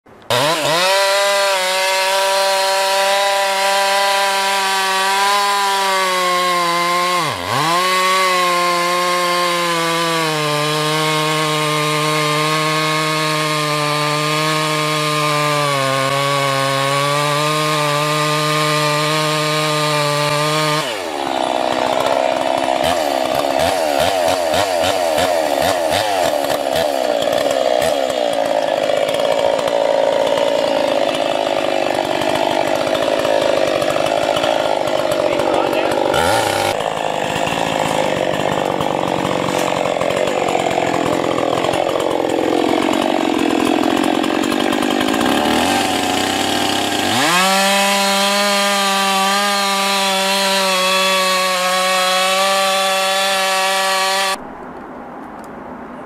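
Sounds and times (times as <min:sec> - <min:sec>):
chainsaw cutting tree trunk: 0:00.1 - 0:54.4
chainsaw chain chatter: 0:00.2 - 0:54.4.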